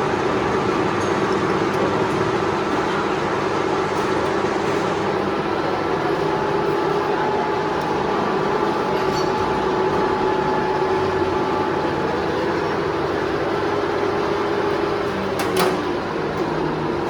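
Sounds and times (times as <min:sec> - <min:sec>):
metal lathe hum and whine: 0:00.0 - 0:15.3.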